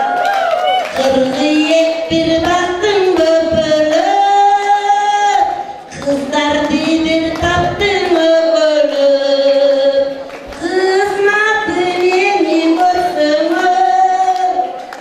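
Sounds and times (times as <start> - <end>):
woman singing unaccompanied: 0.8 - 15.0.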